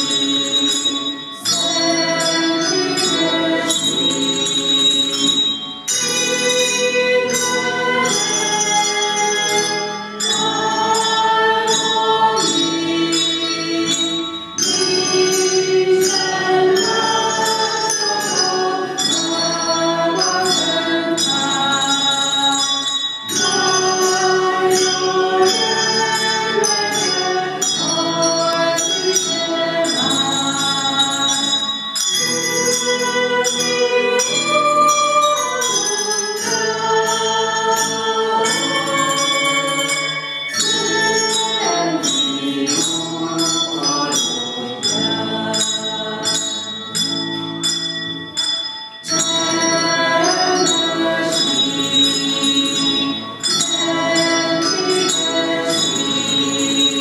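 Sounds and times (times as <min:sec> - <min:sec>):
handbell ensemble playing: 0:00.0 - 0:57.0.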